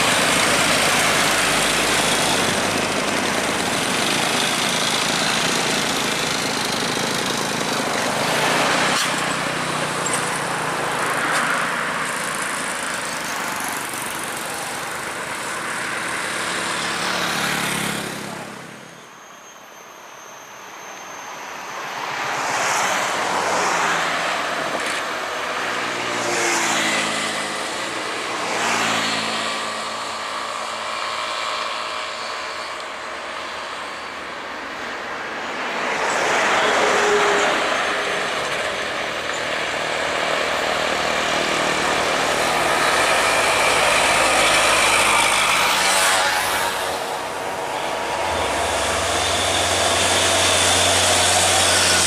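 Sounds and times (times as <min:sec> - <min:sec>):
trucks and vehicles passing: 0:00.0 - 0:19.4, 0:20.0 - 0:52.0.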